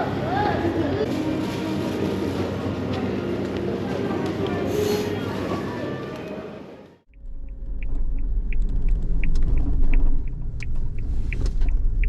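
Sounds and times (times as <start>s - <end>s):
road and engine rumble: 0.8s - 12.0s.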